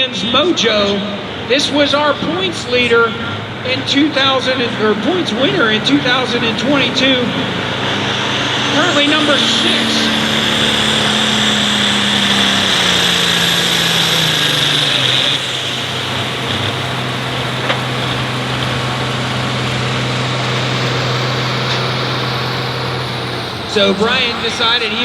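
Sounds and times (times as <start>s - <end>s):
tractor engine running under load: 0.0s - 25.0s
high whine: 1.0s - 25.0s.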